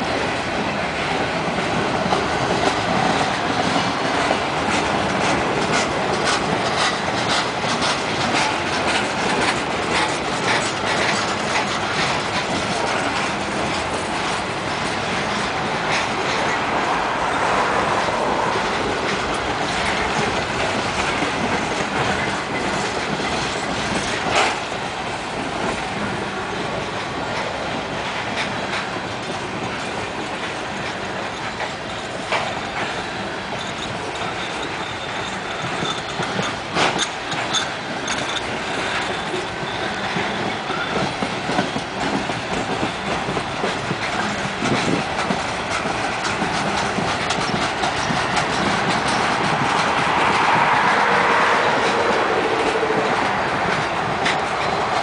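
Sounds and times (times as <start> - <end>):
freight train wheels rumbling: 0.0 - 55.0
wheels clanking over rail joints: 0.1 - 55.0.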